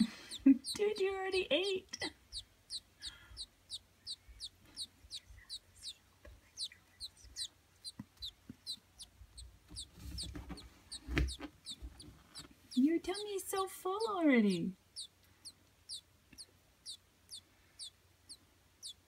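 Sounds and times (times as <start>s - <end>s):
nestling peeping: 0.0s - 19.0s.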